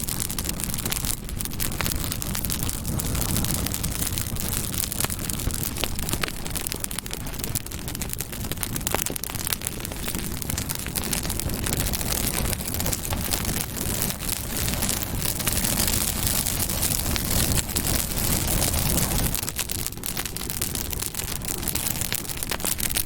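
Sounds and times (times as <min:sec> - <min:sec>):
campfire crackling and popping: 0:00.0 - 0:23.0
low rumble of flames: 0:00.0 - 0:23.0.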